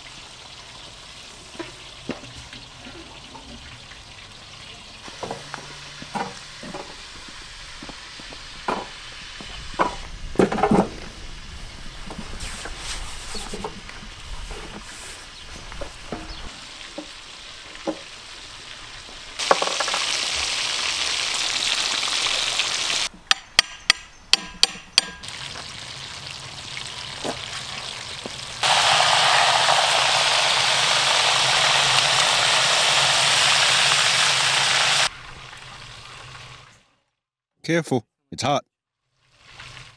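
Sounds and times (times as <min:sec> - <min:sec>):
hot oil sizzling around frying fish: 0:00.0 - 0:09.6, 0:11.3 - 0:23.1, 0:25.2 - 0:37.0, 0:39.0 - 0:39.9.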